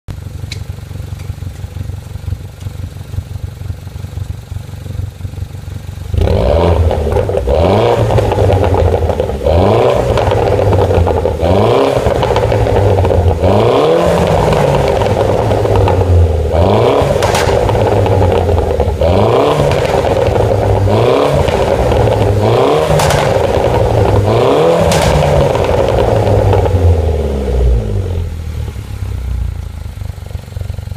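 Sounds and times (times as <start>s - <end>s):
car engine idling and revving: 0.1s - 30.9s
exhaust cracks: 0.4s - 30.9s.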